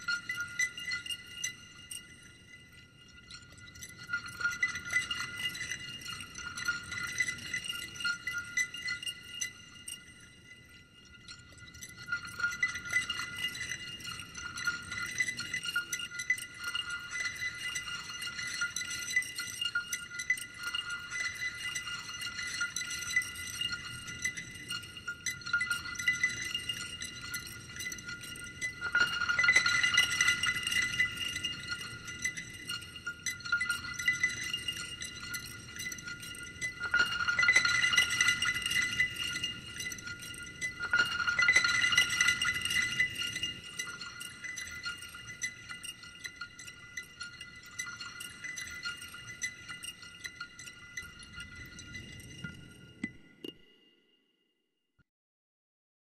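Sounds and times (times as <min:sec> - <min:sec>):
glassy chiming tones: 0:00.0 - 0:54.4.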